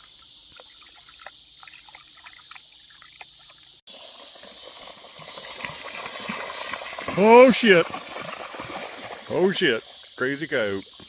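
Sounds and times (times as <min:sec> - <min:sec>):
insect drone: 0:00.0 - 0:11.0
water splashing and trickling: 0:00.0 - 0:11.0.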